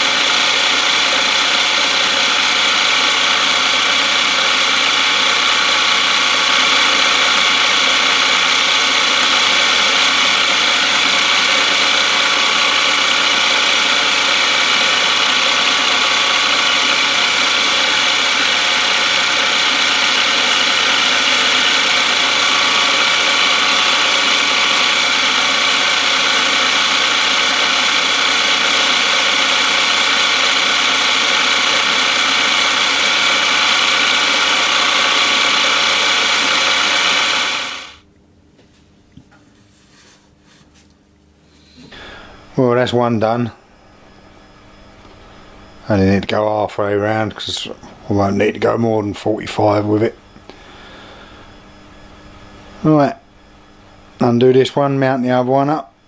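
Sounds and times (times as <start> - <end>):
gear whine: 0.0 - 38.0, 41.5 - 55.8
milling machine drone: 0.0 - 38.2, 41.5 - 56.0.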